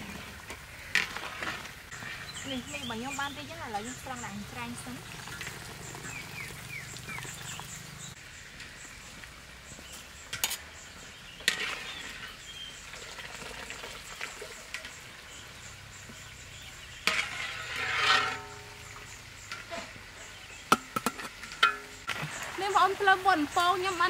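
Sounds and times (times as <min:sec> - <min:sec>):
small birds chirping: 0:01.9 - 0:17.4, 0:18.7 - 0:24.0.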